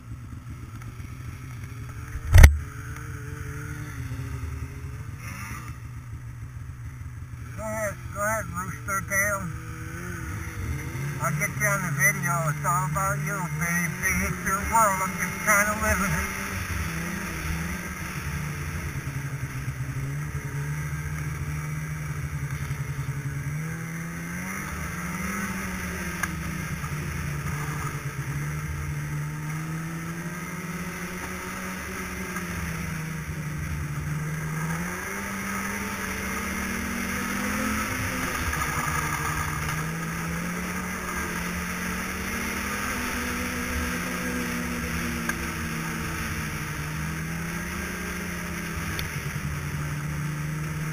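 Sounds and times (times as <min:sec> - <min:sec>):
snowmobile engine running: 0:00.0 - 0:50.9.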